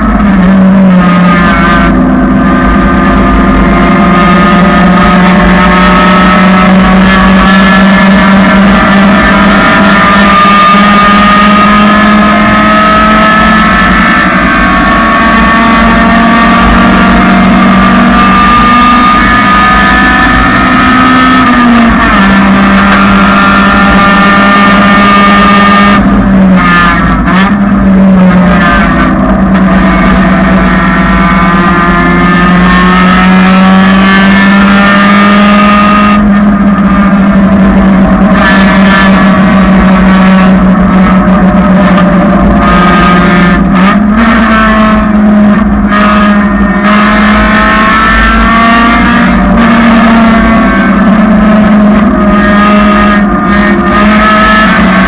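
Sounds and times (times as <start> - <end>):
car engine revving under load: 0.0 - 55.0.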